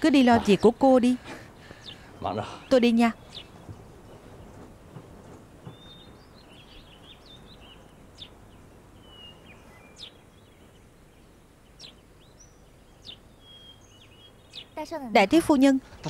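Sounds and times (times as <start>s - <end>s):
low background hiss: 0.0s - 16.0s
small birds chirping: 0.0s - 16.0s.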